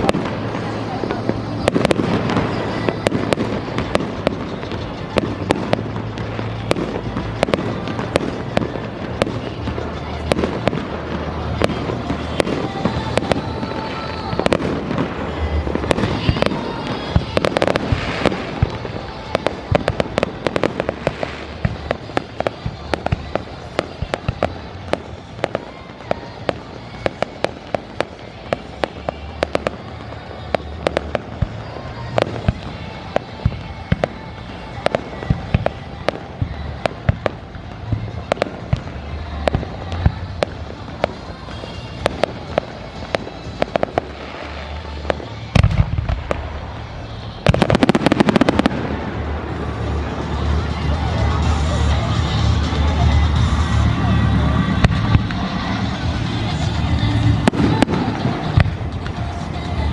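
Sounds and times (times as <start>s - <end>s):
fireworks bangs and crackling pops: 0.0s - 59.9s.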